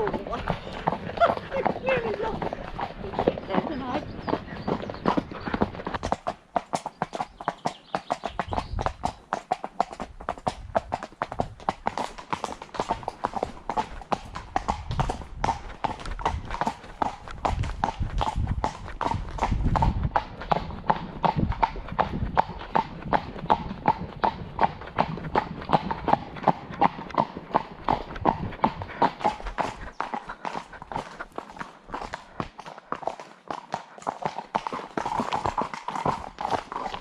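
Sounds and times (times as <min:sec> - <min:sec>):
horse hooves clip-clopping: 0:00.0 - 0:37.0.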